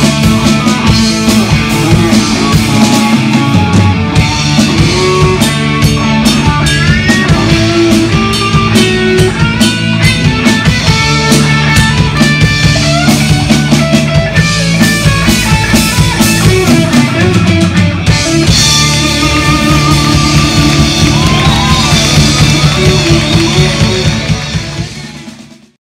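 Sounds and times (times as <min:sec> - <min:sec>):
live rock band playing: 0:00.0 - 0:25.8.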